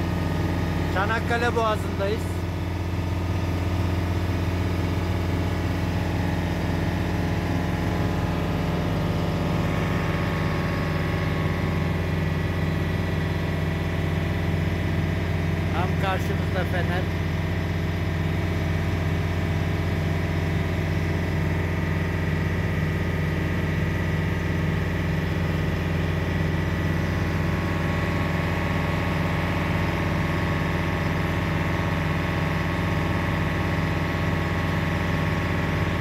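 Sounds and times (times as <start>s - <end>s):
boat diesel engine humming: 0.0s - 36.0s.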